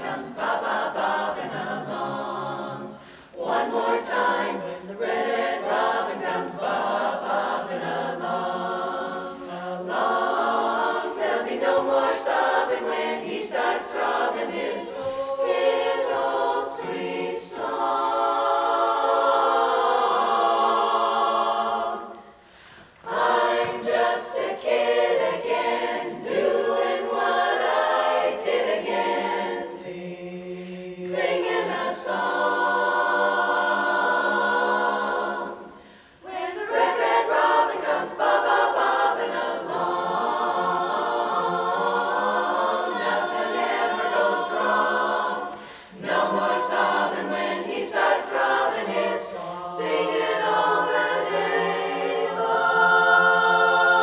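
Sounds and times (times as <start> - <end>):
women's chorus singing: 0.0 - 54.0.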